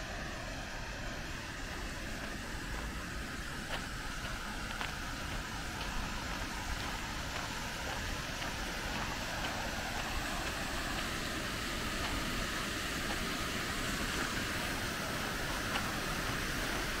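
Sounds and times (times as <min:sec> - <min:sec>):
fountain splashing: 0:00.0 - 0:17.0.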